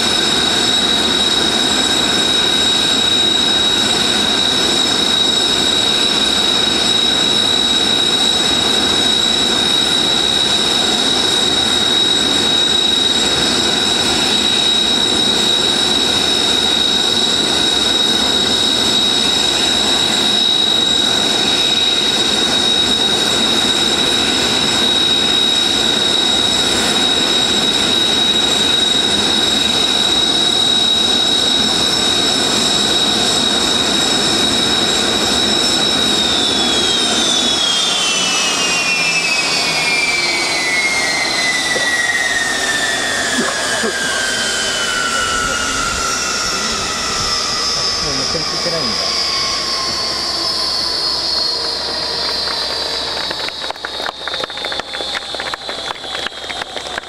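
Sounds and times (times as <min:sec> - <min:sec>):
jet engines idling with whine: 0:00.0 - 0:57.0.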